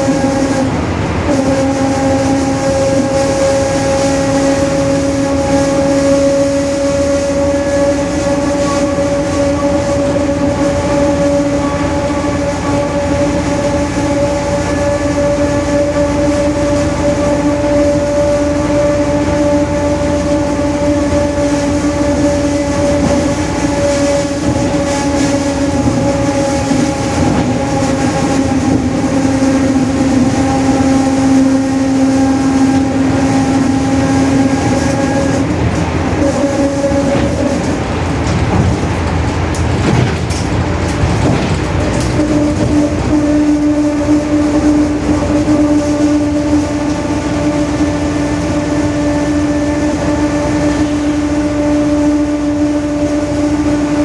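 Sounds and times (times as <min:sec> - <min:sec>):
bus differential whining: 0:00.0 - 0:54.0
bus engine rumble: 0:00.0 - 0:54.0.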